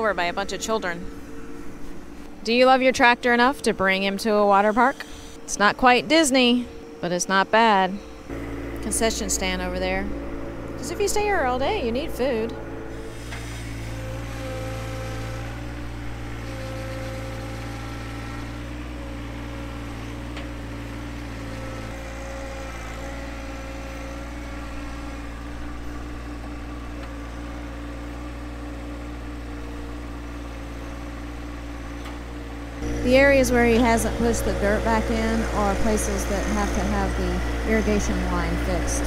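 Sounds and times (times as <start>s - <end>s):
tractor diesel engine idling: 7.3s - 39.0s.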